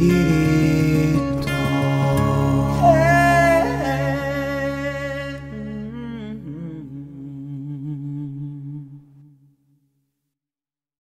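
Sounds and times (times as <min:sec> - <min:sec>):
person humming held notes: 0:00.0 - 0:09.1.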